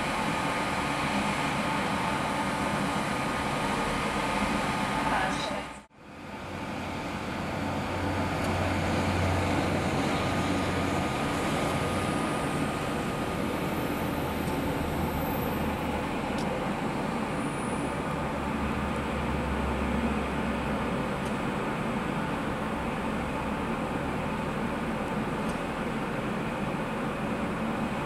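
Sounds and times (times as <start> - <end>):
diesel train engine hum: 0.0 - 28.0.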